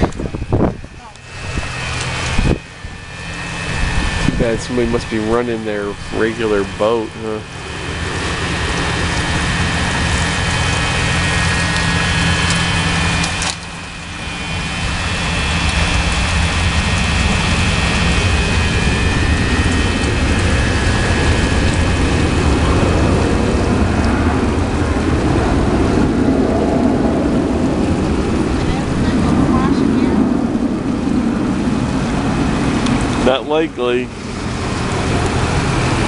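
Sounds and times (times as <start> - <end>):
motorboat engine running: 0.0 - 36.0.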